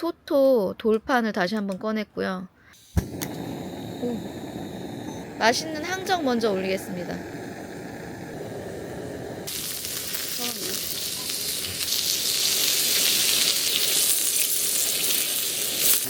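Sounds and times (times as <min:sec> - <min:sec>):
meat sizzling on griddle: 0:02.8 - 0:16.0.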